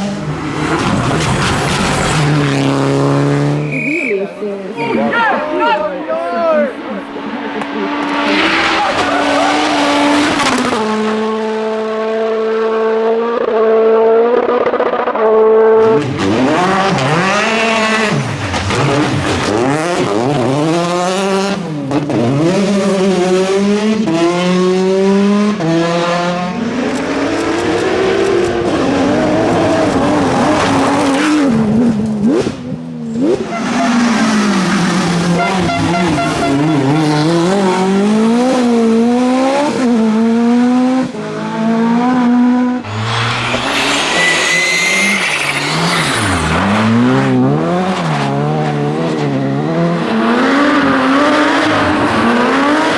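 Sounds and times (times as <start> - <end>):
rally car engine revving: 0.0 - 3.8, 6.6 - 52.9.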